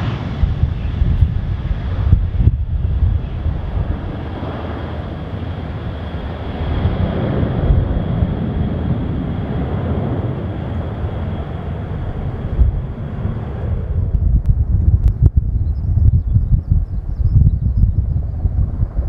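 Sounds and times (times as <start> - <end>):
jet engines rumbling at takeoff: 0.0 - 19.0.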